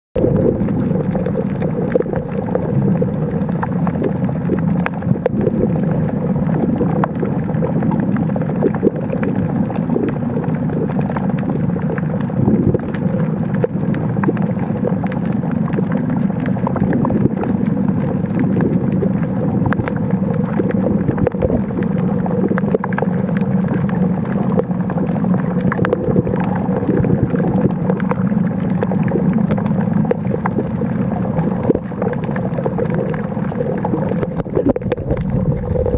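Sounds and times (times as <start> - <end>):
sharp underwater clicks: 0.2 - 35.9
underwater low rumble: 0.2 - 35.9.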